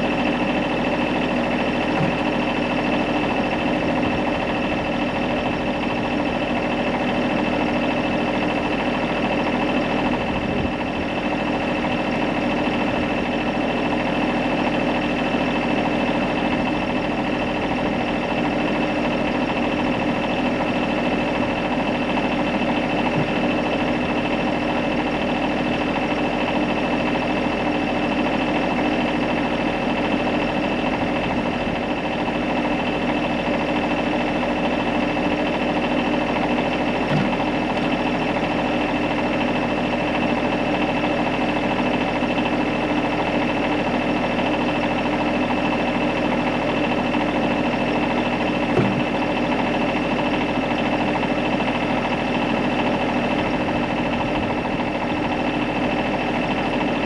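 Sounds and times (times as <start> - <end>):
steady mechanical drone: 0.0 - 57.0.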